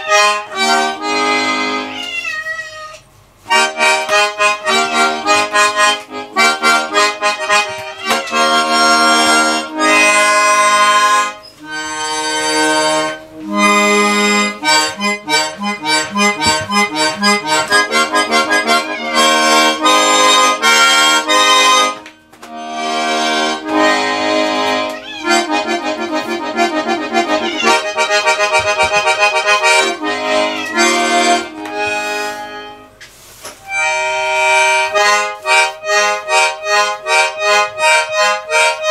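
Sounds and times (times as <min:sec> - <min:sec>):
button accordion chords: 0:00.0 - 0:02.0, 0:03.5 - 0:33.0, 0:33.7 - 0:38.9.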